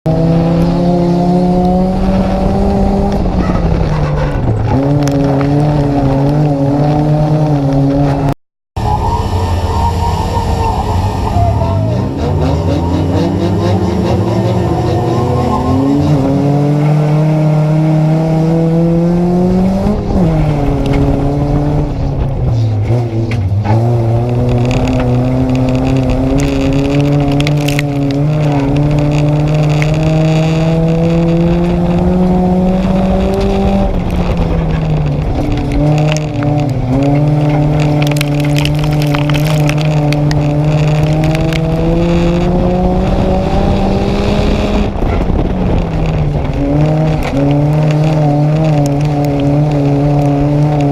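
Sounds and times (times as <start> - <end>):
race car engine revving: 0.1 - 8.3, 9.0 - 50.9.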